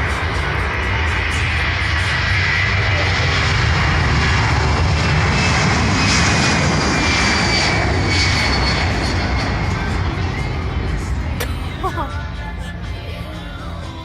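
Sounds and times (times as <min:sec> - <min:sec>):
high turbine whine: 0:00.0 - 0:14.0
jet engines roaring: 0:00.0 - 0:14.0.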